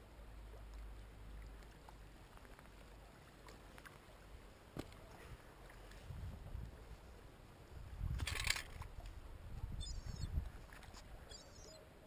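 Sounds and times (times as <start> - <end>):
faint low outdoor rumble: 0.0 - 12.0.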